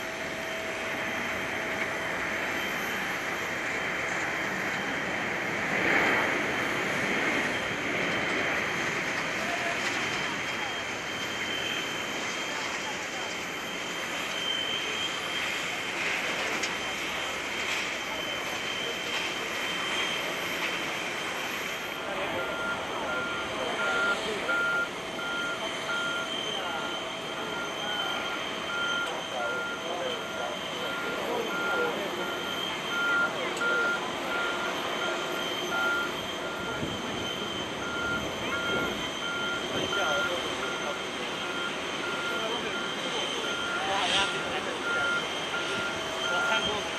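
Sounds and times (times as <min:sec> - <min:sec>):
jet engines rushing and whining: 0:00.0 - 0:46.9
reversing alarm beeping: 0:00.0 - 0:46.9.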